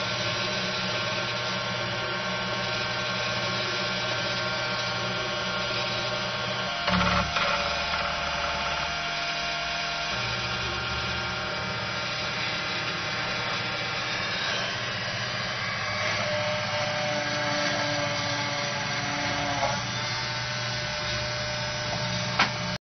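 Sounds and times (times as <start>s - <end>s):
drilling machine spindle whine: 0.0s - 22.8s.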